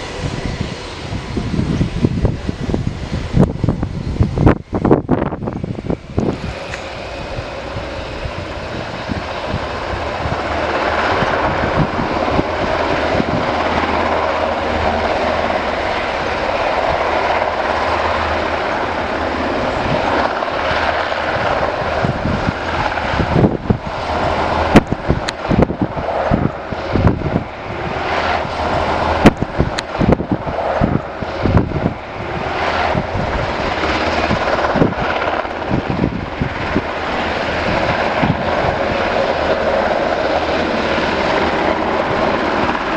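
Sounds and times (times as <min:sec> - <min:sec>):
helicopter turbine and rotor rumble: 0:00.0 - 0:42.9.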